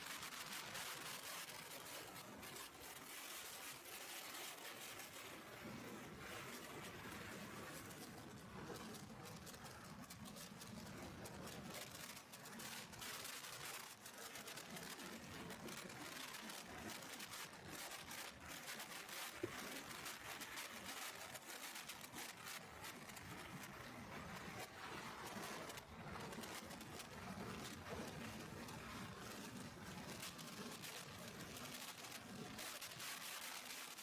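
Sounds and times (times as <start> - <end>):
crackling rustle on microphone: 0.0 - 34.0.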